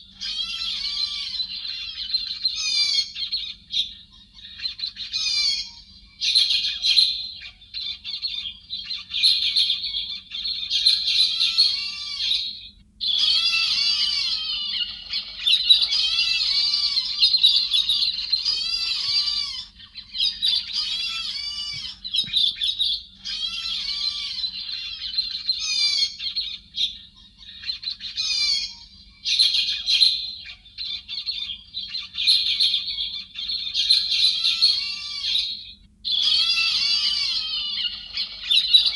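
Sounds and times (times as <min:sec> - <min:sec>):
flock of birds calling: 0:00.0 - 0:38.9.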